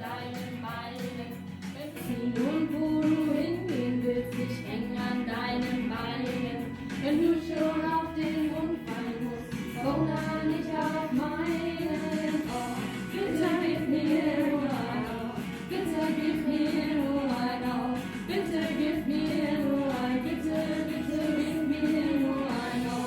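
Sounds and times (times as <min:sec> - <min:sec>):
backing music: 0:00.0 - 0:23.0
person singing: 0:00.0 - 0:23.0.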